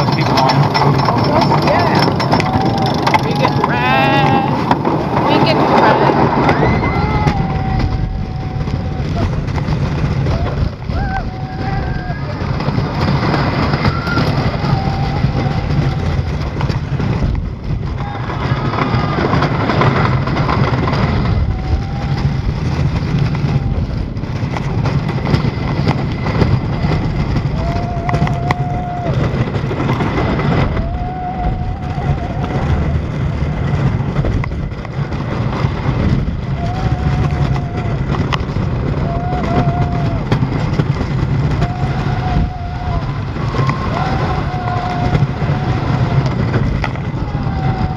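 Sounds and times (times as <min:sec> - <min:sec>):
roller coaster wheels rumbling: 0:00.0 - 0:47.9.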